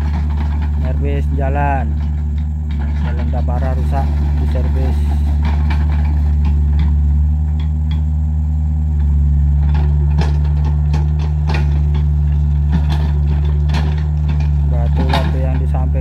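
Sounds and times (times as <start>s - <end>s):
excavator diesel engine running: 0.0s - 16.0s
rock and steel clanking: 0.0s - 16.0s.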